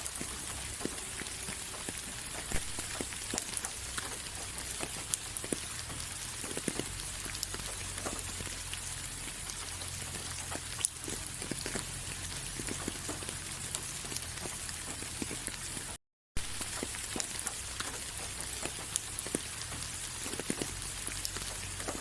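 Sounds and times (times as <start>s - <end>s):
rain hiss: 0.0s - 22.0s
raindrops striking a surface: 0.0s - 22.0s.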